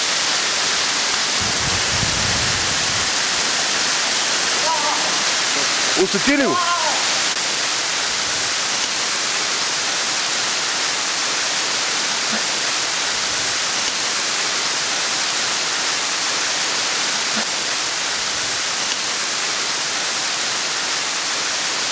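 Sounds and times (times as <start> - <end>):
waterfall pouring: 0.0 - 21.8.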